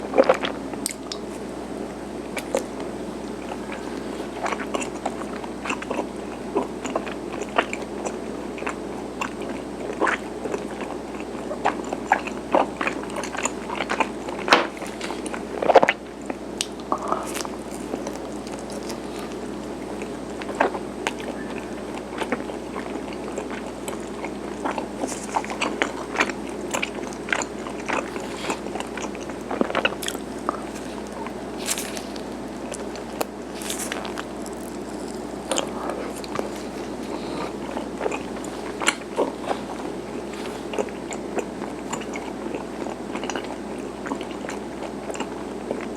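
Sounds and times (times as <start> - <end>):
person chewing sticky food: 0.0 - 45.9
steady background hum: 0.0 - 45.9.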